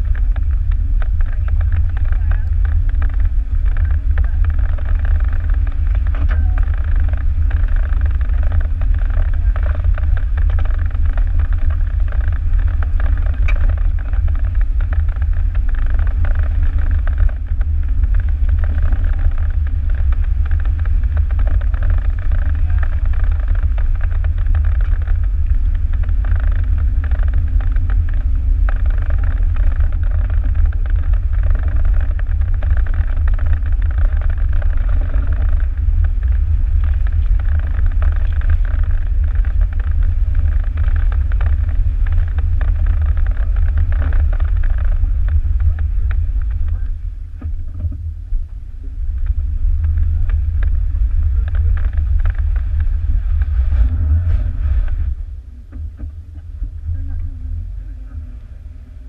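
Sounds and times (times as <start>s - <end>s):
vehicle driving on wet gravel: 0.0s - 48.1s, 48.8s - 59.0s.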